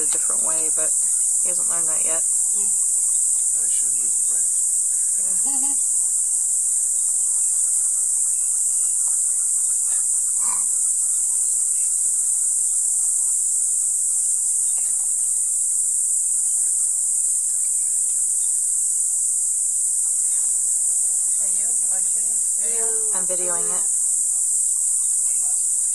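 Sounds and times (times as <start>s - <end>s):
insects shrilling: 0.0s - 25.9s.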